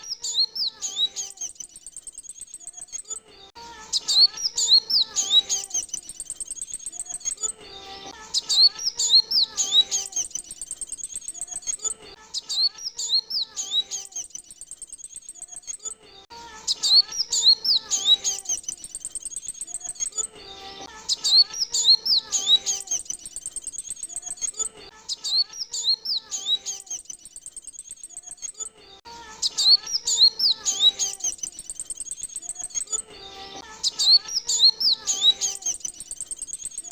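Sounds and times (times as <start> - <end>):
bird twittering: 0.0 - 3.2, 3.8 - 7.6, 8.2 - 16.0, 16.7 - 28.7, 29.4 - 36.9.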